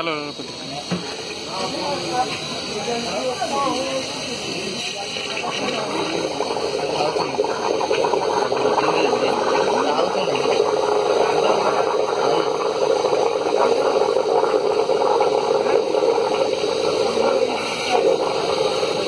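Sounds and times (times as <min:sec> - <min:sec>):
steam bubbling and hissing in liquid: 0:00.0 - 0:19.0.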